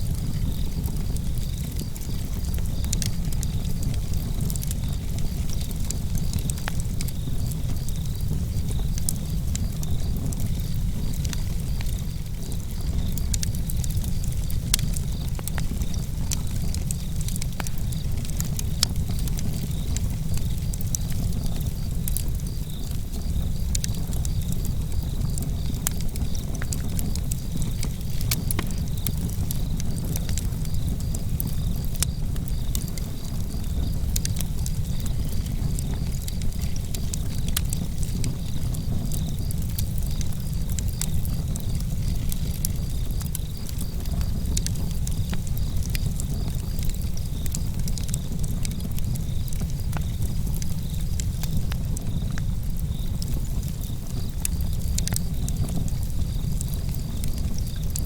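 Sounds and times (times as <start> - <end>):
fire crackles and pops: 0.0 - 58.0
low rumble of flames: 0.0 - 58.0.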